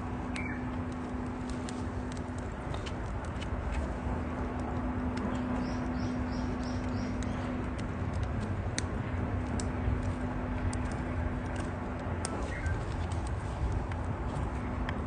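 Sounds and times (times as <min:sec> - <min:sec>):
campfire crackling and popping: 0:00.0 - 0:15.0
steady low hum: 0:00.0 - 0:15.0.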